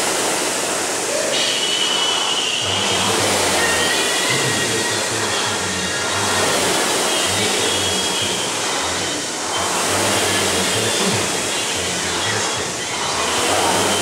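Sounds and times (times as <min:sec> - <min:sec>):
rowing machine fan whirring: 0:00.0 - 0:14.0.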